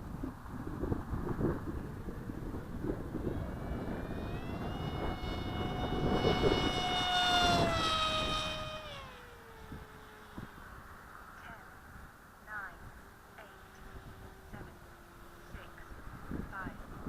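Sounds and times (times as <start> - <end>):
model plane motor and propeller whine: 0.0 - 17.0
wind buffeting microphone: 0.0 - 17.0.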